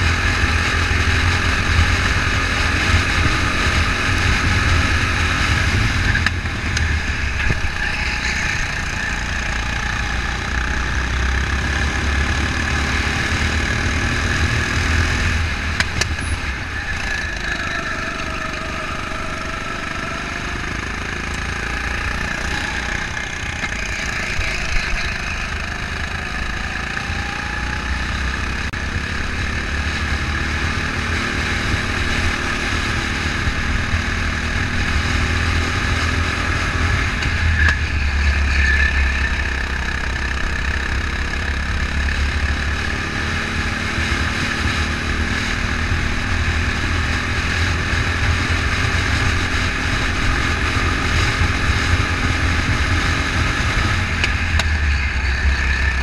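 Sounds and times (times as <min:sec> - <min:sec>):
go-kart engine running: 0:00.0 - 0:56.0.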